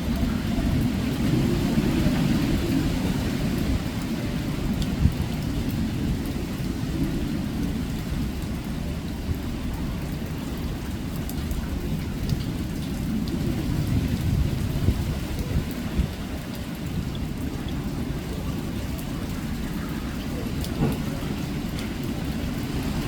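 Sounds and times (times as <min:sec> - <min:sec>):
rain: 0:00.0 - 0:23.0
wind buffeting microphone: 0:00.0 - 0:23.0.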